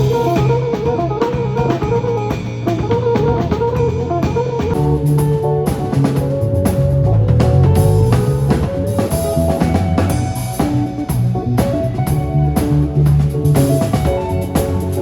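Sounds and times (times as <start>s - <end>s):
kick drum and rimshots: 0.0s - 15.0s
live band playing: 0.0s - 15.0s.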